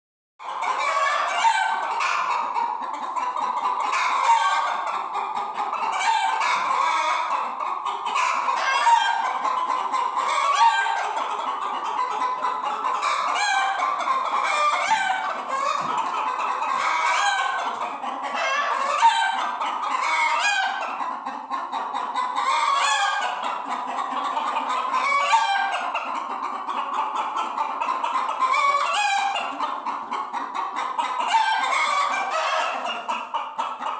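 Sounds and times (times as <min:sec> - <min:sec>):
chickens clucking: 0:00.4 - 0:33.9.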